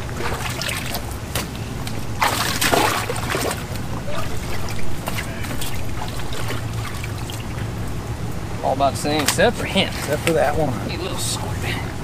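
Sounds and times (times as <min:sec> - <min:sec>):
water splashing in a tub: 0:00.0 - 0:07.9, 0:09.0 - 0:11.0.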